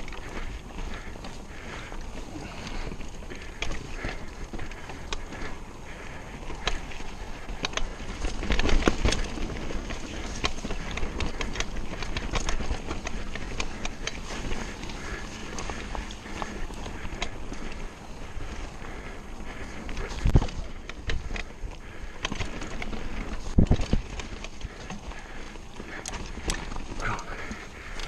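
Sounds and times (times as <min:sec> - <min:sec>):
bike rattling over bumps: 0:00.0 - 0:28.0
tyre and trail noise: 0:00.0 - 0:28.0.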